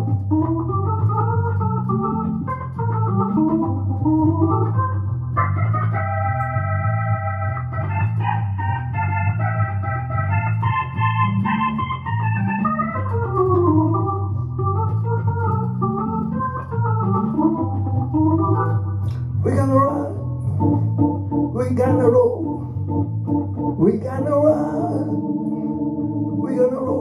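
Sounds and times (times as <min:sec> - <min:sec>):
keyboard playing organ chords: 0:00.0 - 0:27.0.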